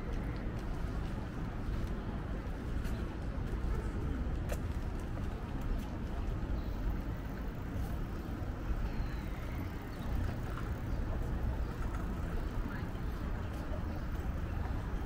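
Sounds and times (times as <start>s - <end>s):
faint voices: 0.0s - 15.0s
low city rumble: 0.0s - 15.0s.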